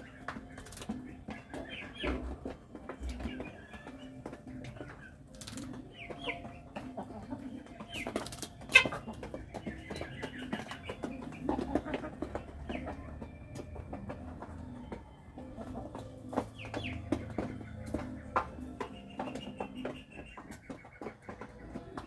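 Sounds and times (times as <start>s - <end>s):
chickens clucking: 0.0s - 22.0s
scattered clicks and taps: 0.0s - 22.0s.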